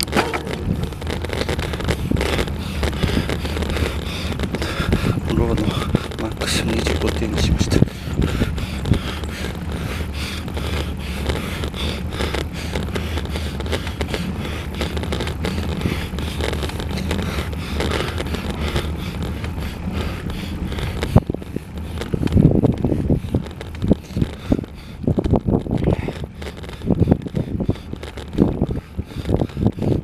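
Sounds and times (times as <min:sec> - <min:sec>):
bicycle tyres on asphalt: 0:00.0 - 0:30.0
wind rushing over microphone: 0:00.0 - 0:30.0.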